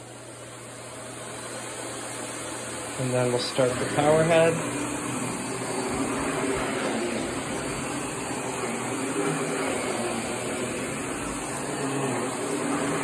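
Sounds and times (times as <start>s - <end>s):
vacuum cleaner running: 0.0s - 13.0s
power head brushing a rug: 0.7s - 13.0s.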